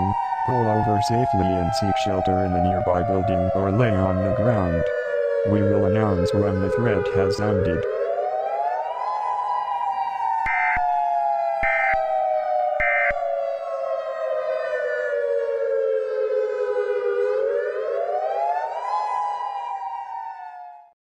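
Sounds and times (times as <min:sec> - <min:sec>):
warning siren: 0:00.0 - 0:21.0.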